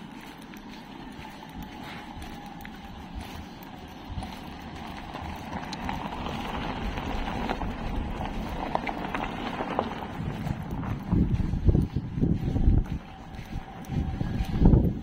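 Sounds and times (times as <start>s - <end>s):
footsteps on gravel: 0.0s - 15.0s.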